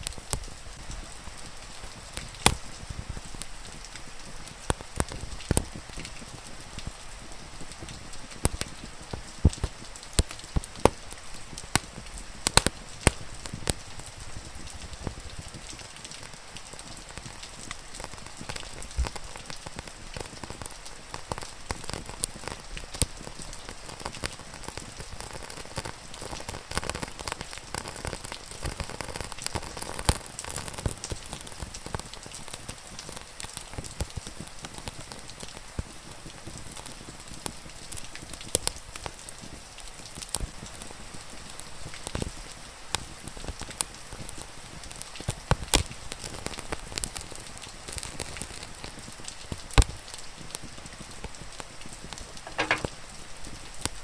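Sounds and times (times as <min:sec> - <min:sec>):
steady rain hiss: 0:00.0 - 0:54.0
wood fire crackling and popping: 0:00.0 - 0:54.0.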